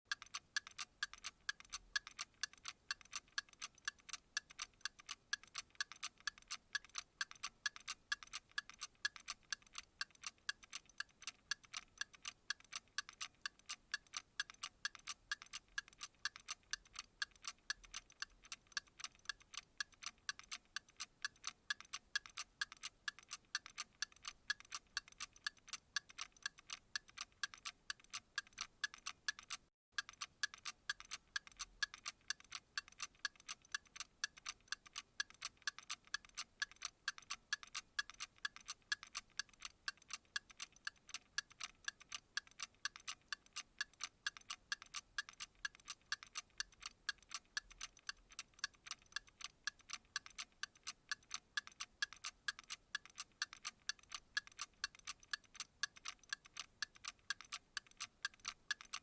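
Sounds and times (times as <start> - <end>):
steady sharp ticking: 0.1 - 59.0.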